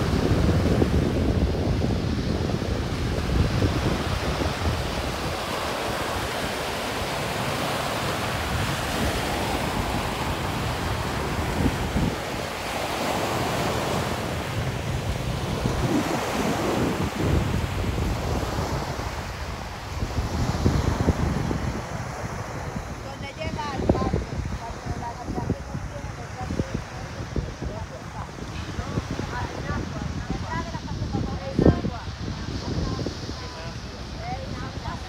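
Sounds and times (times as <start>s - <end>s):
sea surf rushing: 0.0s - 35.0s
wind buffeting microphone: 0.0s - 35.0s.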